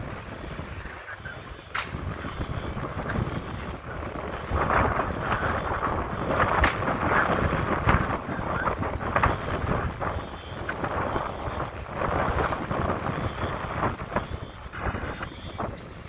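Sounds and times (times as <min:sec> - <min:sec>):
rushing noise: 0:00.0 - 0:16.0
wind rumbling on microphone: 0:00.0 - 0:16.0.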